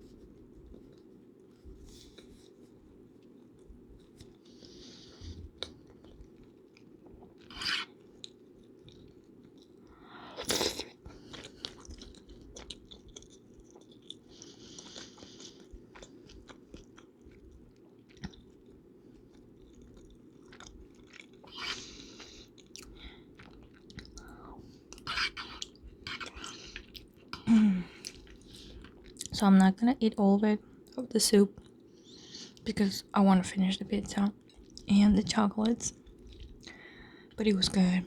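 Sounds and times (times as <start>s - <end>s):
chewing and wet mouth sounds: 0.0s - 38.0s
steady low hum: 0.0s - 38.0s.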